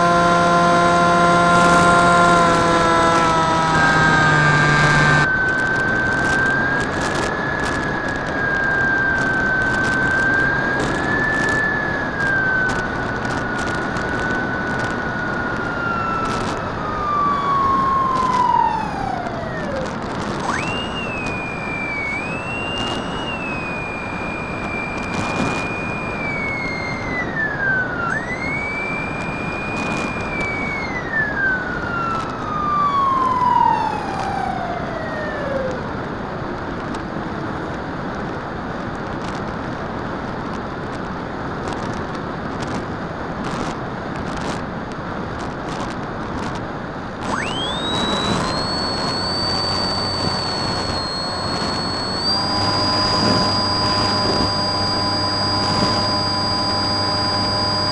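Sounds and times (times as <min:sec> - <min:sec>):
high engine whine: 0:00.0 - 0:57.9
rush of air and engine noise: 0:00.0 - 0:57.9.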